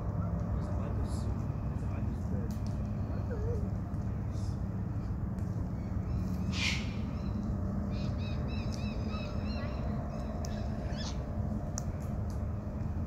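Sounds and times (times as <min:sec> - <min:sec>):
birds chirping: 0:00.0 - 0:11.9
steady low rumble: 0:00.0 - 0:13.0.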